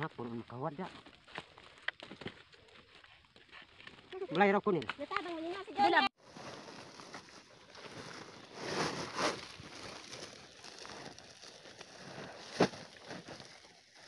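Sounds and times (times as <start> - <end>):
corn husks rustling: 0.0 - 14.0.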